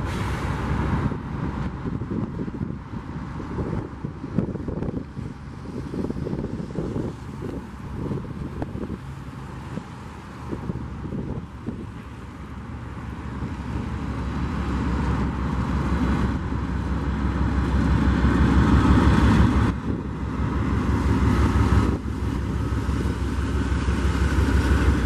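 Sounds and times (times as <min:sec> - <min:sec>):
freight train passing: 0:00.0 - 0:25.0.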